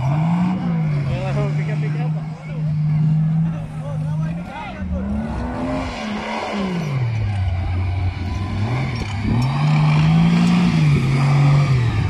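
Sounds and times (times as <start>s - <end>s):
off-road buggy engine revving: 0.0s - 12.0s.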